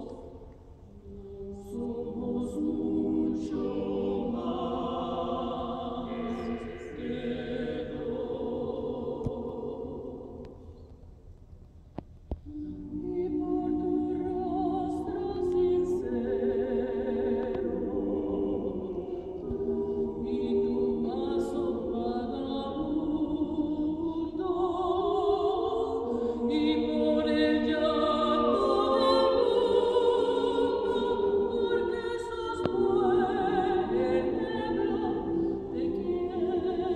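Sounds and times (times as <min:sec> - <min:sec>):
vocal ensemble singing in harmony: 0:00.0 - 0:11.1, 0:12.4 - 0:36.9.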